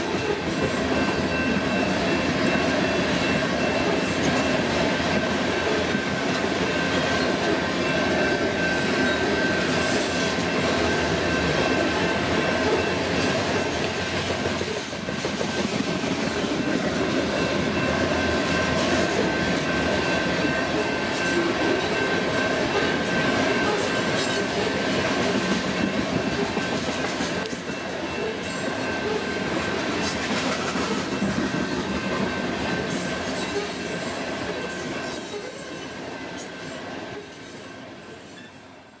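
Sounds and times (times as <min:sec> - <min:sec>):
steady high-pitched tone: 0:00.0 - 0:38.2.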